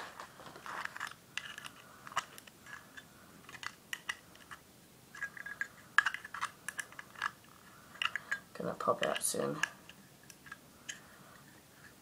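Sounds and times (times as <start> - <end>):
small metallic clicks and scrapes: 0.5 - 12.0.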